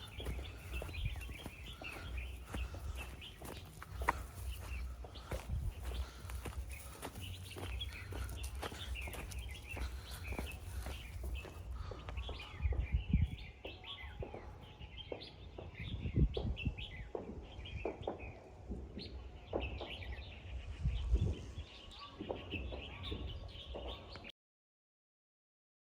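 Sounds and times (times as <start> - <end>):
small birds chirping: 0.0 - 24.3.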